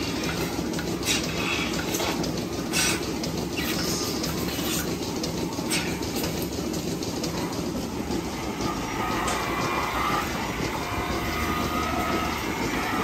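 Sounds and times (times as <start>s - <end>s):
milking machinery drone and hiss: 0.0s - 13.0s.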